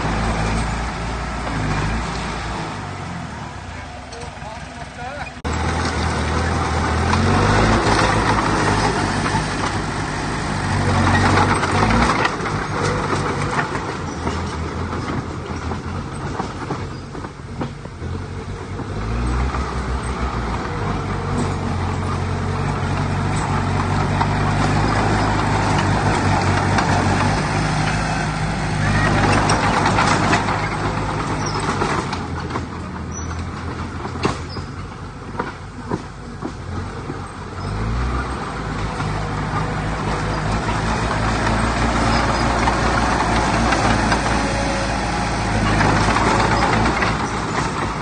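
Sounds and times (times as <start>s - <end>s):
heavy diesel engine revving: 0.0s - 48.0s
dense rattling noise: 4.3s - 48.0s.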